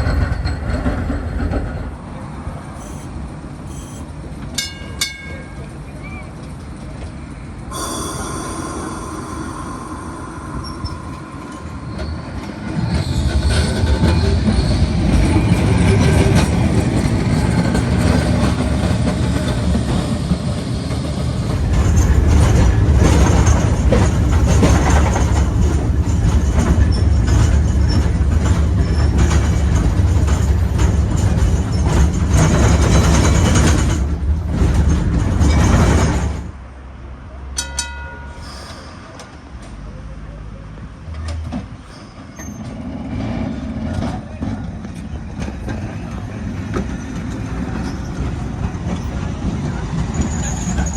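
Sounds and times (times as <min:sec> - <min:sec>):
tram wheel squeal: 0:00.0 - 0:06.8, 0:07.7 - 0:36.7, 0:37.4 - 0:50.9
tram rumbling over track: 0:00.0 - 0:50.9.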